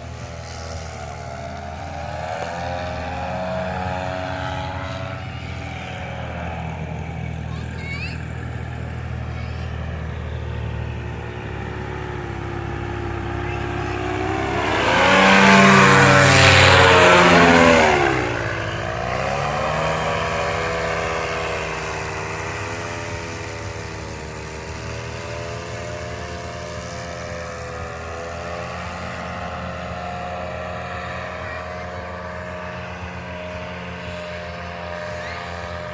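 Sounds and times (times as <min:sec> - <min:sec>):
model airplane motor buzzing: 0:00.0 - 0:35.9.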